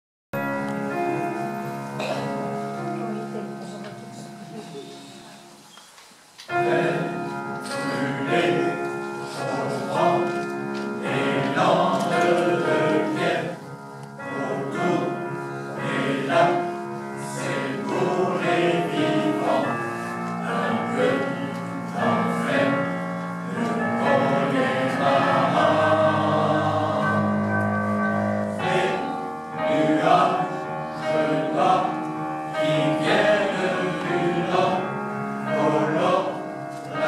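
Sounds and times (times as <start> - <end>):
mixed choir singing: 6.5 - 37.0.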